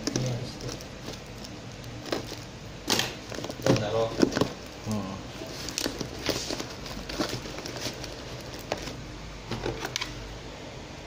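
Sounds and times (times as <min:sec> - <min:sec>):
plastic bag rustling: 0:00.0 - 0:10.2.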